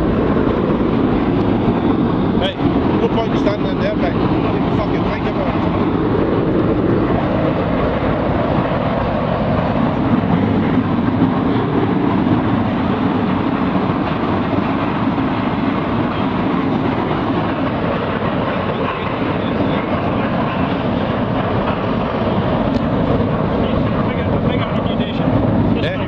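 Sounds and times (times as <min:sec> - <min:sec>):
turbulent floodwater rushing: 0:00.0 - 0:26.0.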